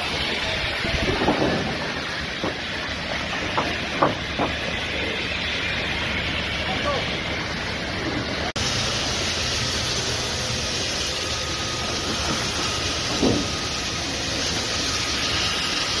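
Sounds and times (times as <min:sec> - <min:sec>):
fire hose spraying water: 0:00.0 - 0:16.0.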